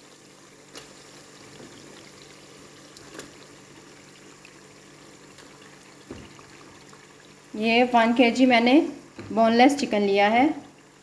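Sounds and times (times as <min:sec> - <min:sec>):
sauce bubbling and sizzling in a pot: 0:00.0 - 0:11.0.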